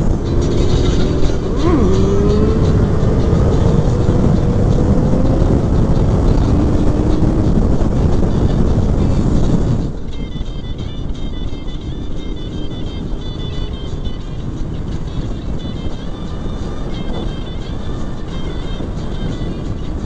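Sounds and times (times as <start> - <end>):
motorcycle engine at speed: 0.0 - 20.0
wind noise: 0.0 - 20.0.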